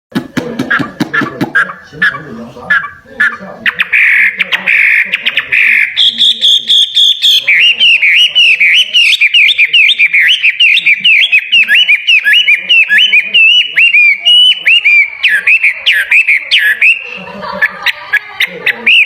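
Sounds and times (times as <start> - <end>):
songbird singing: 0.7 - 17.3.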